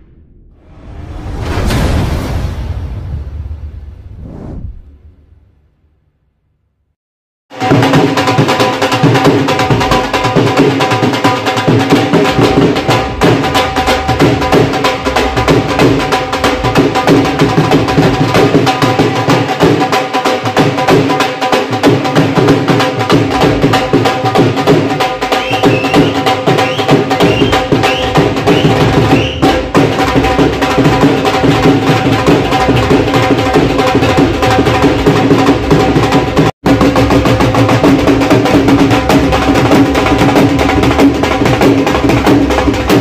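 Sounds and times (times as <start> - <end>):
dhol drums playing: 7.5 - 43.0.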